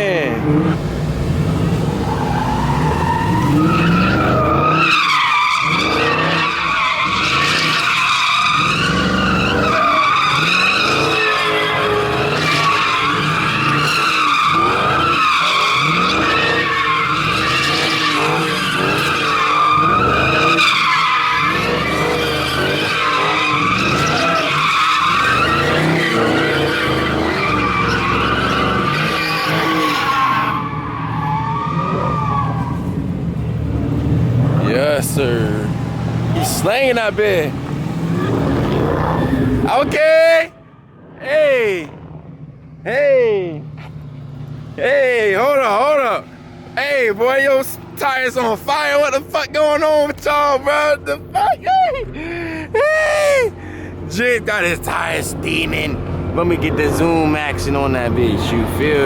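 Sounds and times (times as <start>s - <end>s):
car tires squealing: 0.0s - 40.6s, 42.9s - 59.0s
car engine revving: 0.0s - 42.9s, 43.6s - 59.0s.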